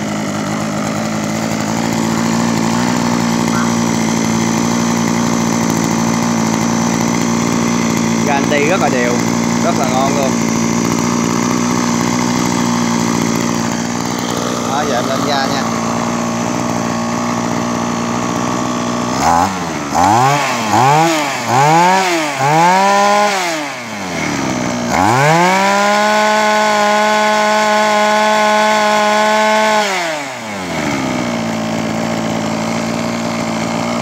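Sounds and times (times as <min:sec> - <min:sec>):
brush cutter engine revving: 0:00.0 - 0:34.0.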